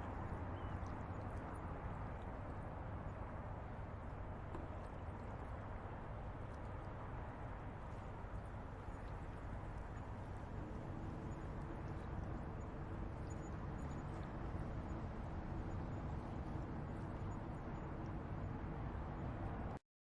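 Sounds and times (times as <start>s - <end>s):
steady low rumble: 0.0s - 19.8s.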